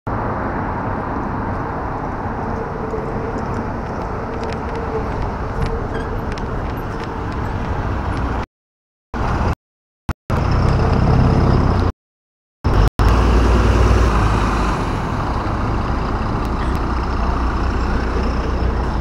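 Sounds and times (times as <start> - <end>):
bus engine running: 0.1 - 8.4, 10.3 - 11.9, 12.7 - 19.0
street noise: 0.1 - 8.5, 9.2 - 9.6, 10.3 - 11.9, 12.6 - 19.0.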